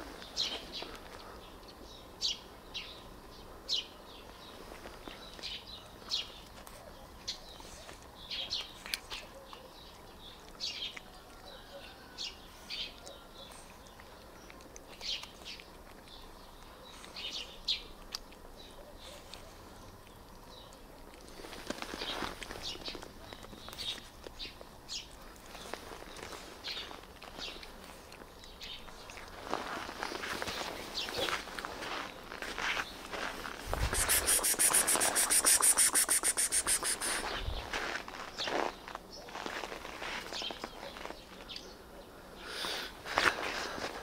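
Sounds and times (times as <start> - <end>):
small birds chirping: 0.0 - 39.4, 40.2 - 44.0.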